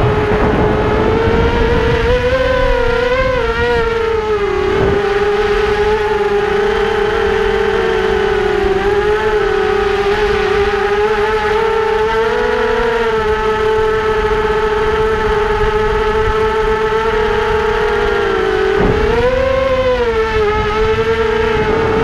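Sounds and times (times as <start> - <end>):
electric motor and propellers whining: 0.0 - 22.0
wind rush: 0.0 - 22.0.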